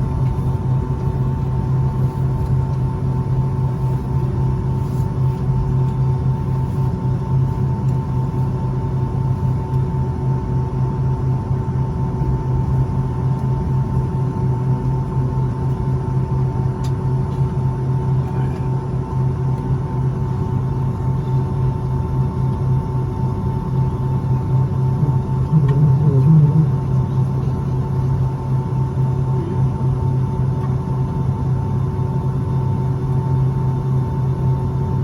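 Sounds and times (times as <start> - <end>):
airplane cabin hum: 0.0 - 35.0
thin steady whines: 0.0 - 35.0.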